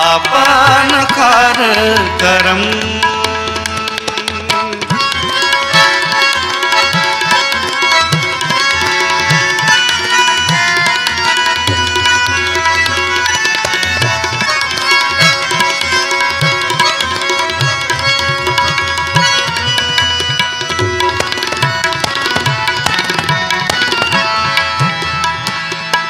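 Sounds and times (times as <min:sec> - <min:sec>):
tabla rhythm: 0:00.0 - 0:26.0.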